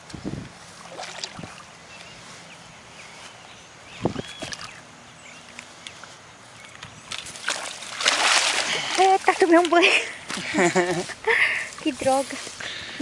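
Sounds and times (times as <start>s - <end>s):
faint outdoor background: 0.0s - 13.0s
birds chirping: 1.1s - 13.0s.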